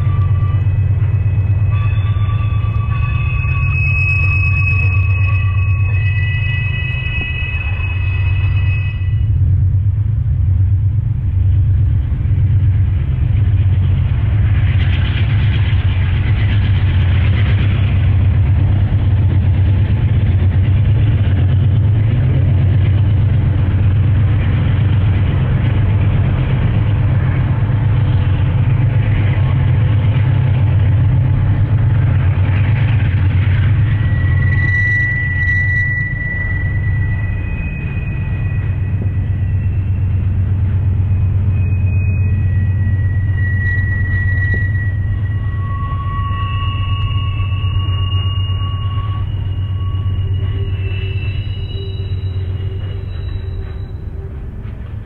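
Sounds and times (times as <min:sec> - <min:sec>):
high steady squeal: 0:00.0 - 0:10.6, 0:11.4 - 0:55.0
diesel locomotive engine rumble: 0:00.0 - 0:55.0
freight cars rolling past: 0:00.0 - 0:55.0.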